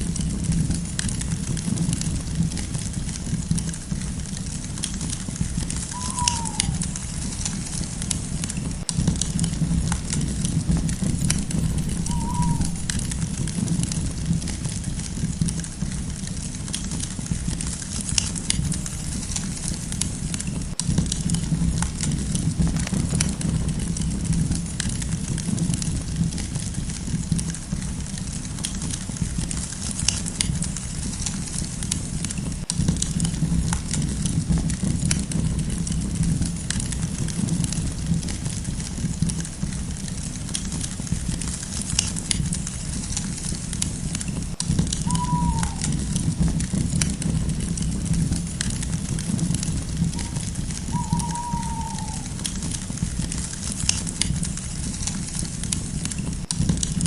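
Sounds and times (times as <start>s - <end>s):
sharp pops and snaps of fire: 0.0s - 51.2s, 52.0s - 57.0s
campfire crackling: 0.0s - 57.0s.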